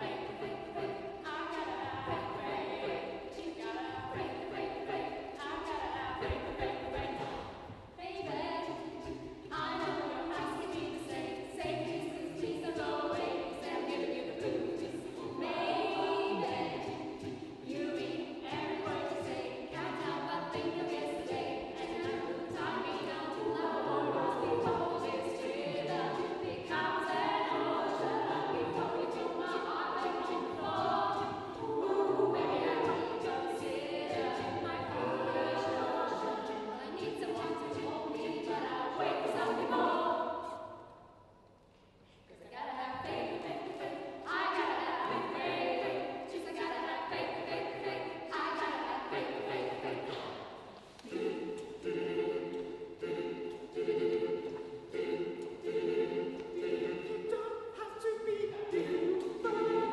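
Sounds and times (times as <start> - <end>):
mixed choir singing a cappella: 0.0 - 41.2, 42.3 - 59.9.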